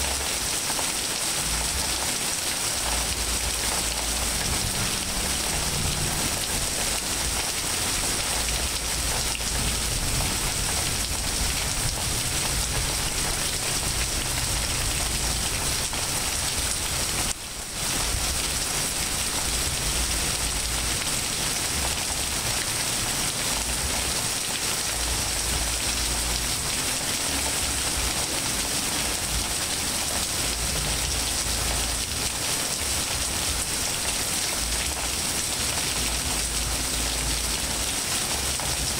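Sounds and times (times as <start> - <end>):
rain falling on leaves and pavement: 0.0 - 38.9.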